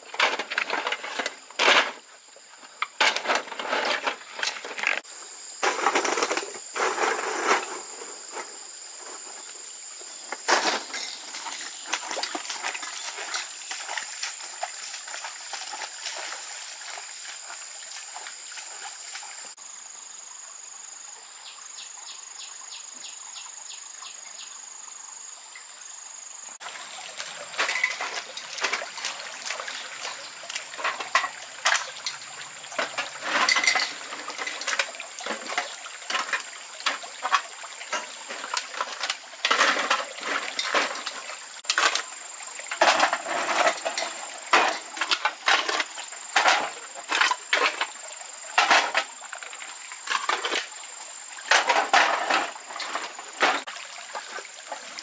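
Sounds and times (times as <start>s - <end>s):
water splashing and sloshing: 0.0s - 19.6s, 26.6s - 55.0s
insect drone: 0.0s - 55.0s.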